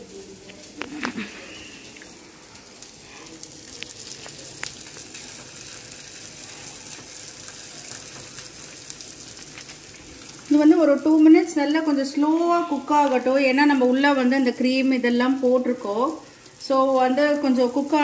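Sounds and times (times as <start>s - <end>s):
patties sizzling in a pan: 0.0s - 18.0s.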